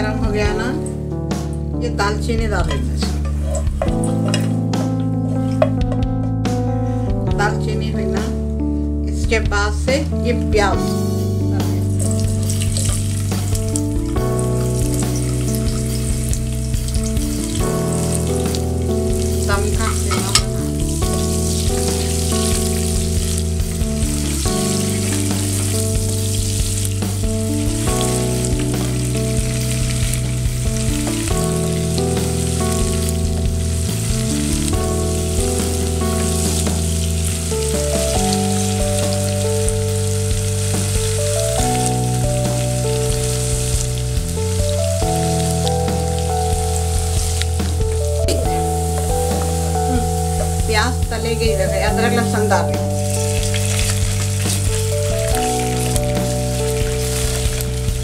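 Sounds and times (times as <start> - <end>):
onions sizzling in hot oil: 2.5 - 5.6, 10.6 - 58.0.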